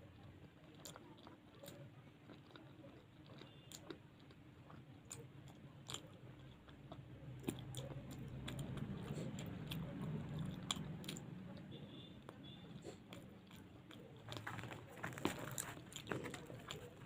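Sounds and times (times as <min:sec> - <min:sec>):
wet chewing mouth clicks: 0:00.2 - 0:17.0.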